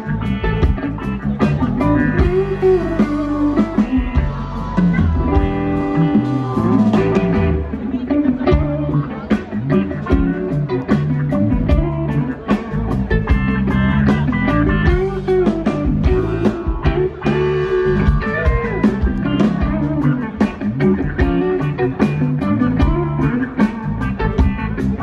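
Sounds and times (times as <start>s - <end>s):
drum kit steady beat: 0.0s - 25.0s
electric guitar melody with slides: 0.0s - 25.0s.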